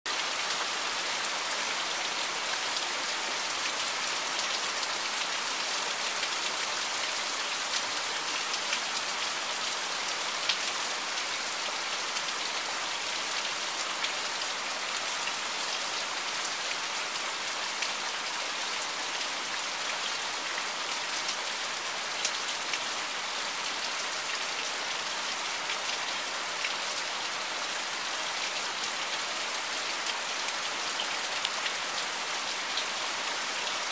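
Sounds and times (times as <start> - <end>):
rain on roof tiles: 0.1 - 33.9.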